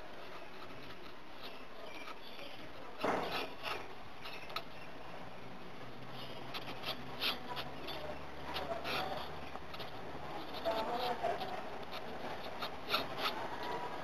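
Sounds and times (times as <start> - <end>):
marker scratching on paper: 0.2 - 4.7, 6.1 - 14.0.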